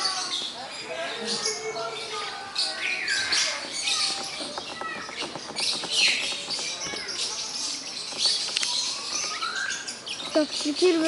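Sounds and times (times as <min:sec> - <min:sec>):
lovebirds chattering: 0:00.0 - 0:11.0.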